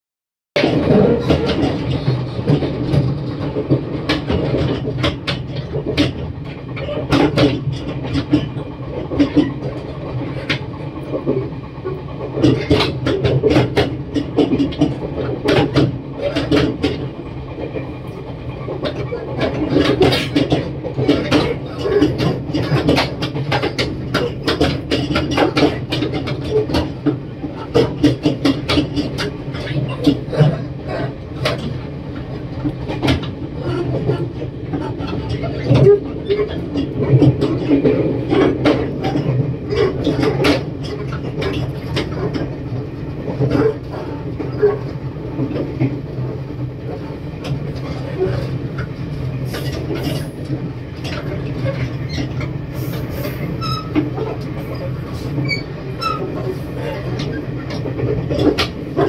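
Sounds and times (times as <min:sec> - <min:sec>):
train carriage low rumble: 0:00.6 - 0:59.0
wheels clicking over track: 0:00.6 - 0:59.0.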